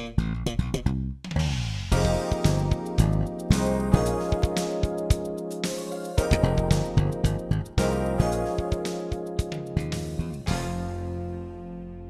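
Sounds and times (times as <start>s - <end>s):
full band with drum hits: 1.3s - 11.0s.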